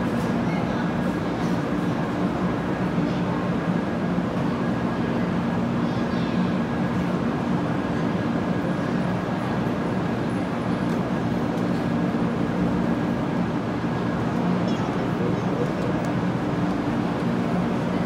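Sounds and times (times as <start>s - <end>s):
train equipment hum: 0.0s - 18.0s.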